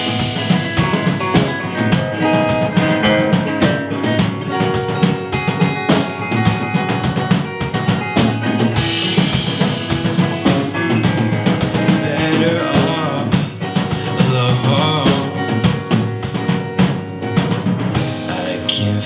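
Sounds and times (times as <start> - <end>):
drum kit beat: 0.0 - 19.0
live band playing: 0.0 - 19.0.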